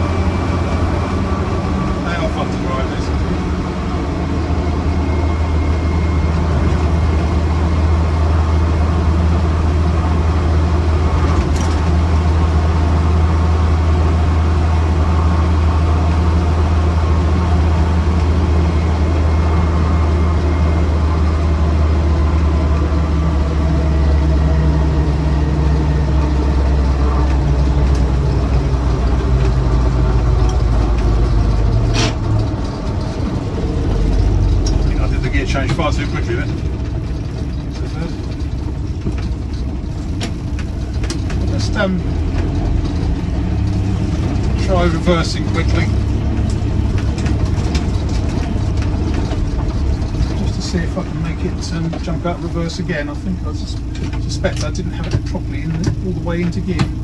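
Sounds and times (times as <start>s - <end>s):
four-cylinder engine running: 0.0s - 57.0s.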